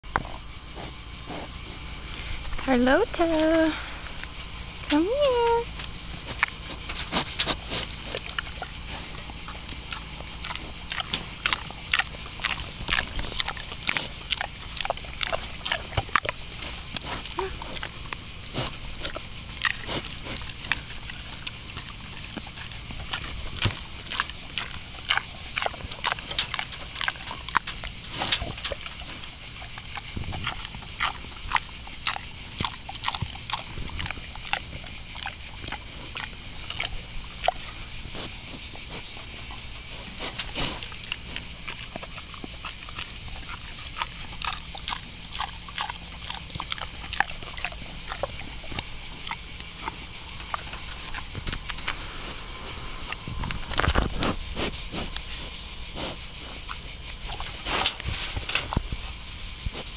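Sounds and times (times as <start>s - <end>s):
boar chewing: 0.0s - 59.9s.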